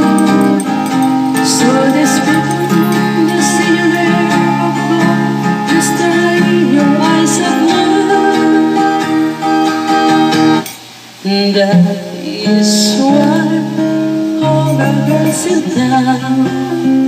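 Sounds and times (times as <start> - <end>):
backing music with acoustic guitar: 0.0 - 17.0
woman singing into microphone: 0.0 - 17.0.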